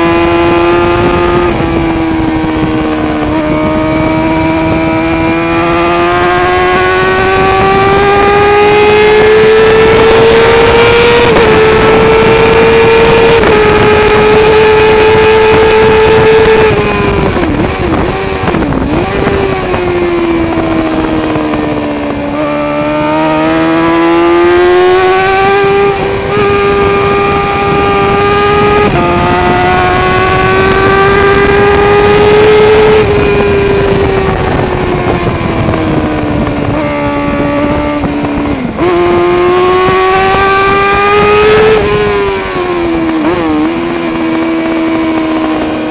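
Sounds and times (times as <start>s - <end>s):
motorcycle engine howling: 0.0s - 45.9s.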